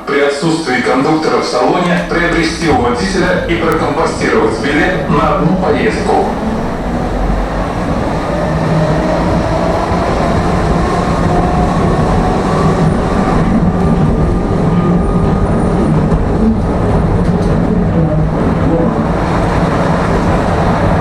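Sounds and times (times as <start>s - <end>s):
tram wheels rumbling on rails: 0.0s - 21.0s.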